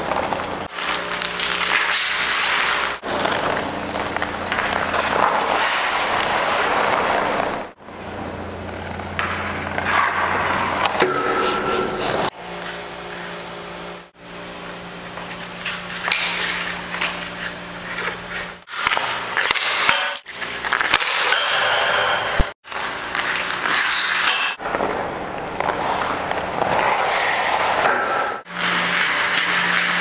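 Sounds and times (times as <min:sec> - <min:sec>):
hockey stick striking puck: 0:00.0 - 0:07.8, 0:08.8 - 0:13.2, 0:15.2 - 0:30.0
skate blades scraping ice: 0:00.0 - 0:07.8, 0:08.5 - 0:30.0
steady low hum: 0:00.7 - 0:26.6.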